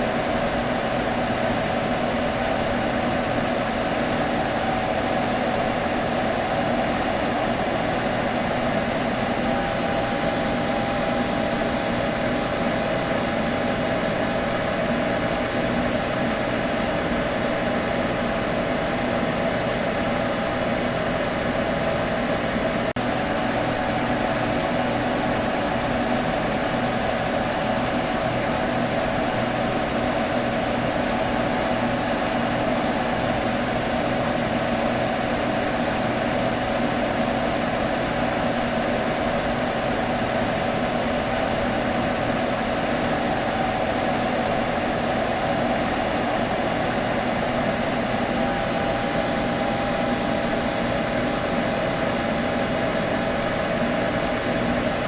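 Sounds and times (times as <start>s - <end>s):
computer fans whirring: 0.0s - 55.0s.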